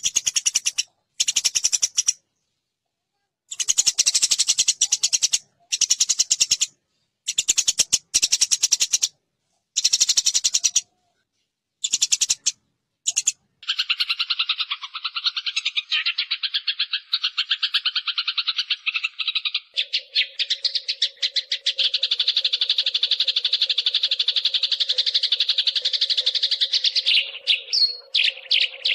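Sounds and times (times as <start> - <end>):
sparrows chattering rattle: 0.0 - 2.2, 3.5 - 9.2, 9.8 - 10.9, 11.8 - 28.9.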